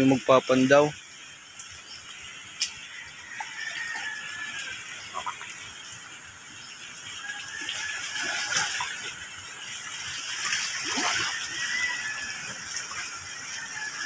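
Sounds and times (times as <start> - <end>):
water sloshing and splashing: 1.2 - 14.0.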